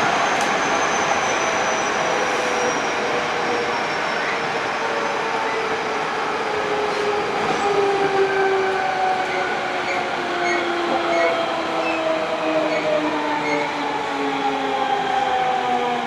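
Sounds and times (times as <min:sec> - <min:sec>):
train inverter whining: 0:00.0 - 0:16.0
train rumbling on rails: 0:00.0 - 0:16.0.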